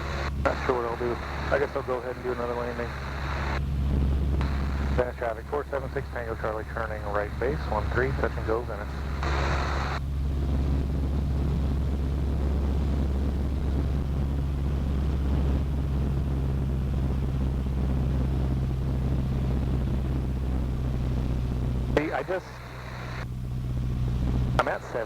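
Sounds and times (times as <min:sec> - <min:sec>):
propeller plane engine droning: 0:00.0 - 0:25.0
radio static hiss: 0:00.0 - 0:25.0.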